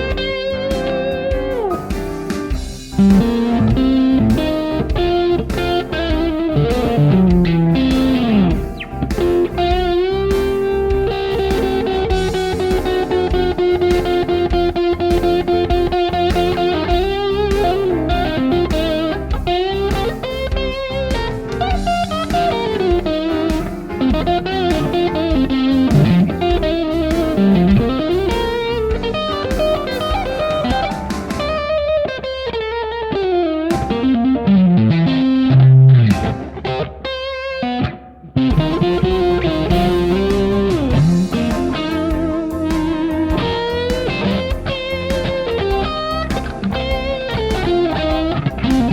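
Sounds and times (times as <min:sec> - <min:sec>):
electric guitar blues lead: 0:00.0 - 0:48.9.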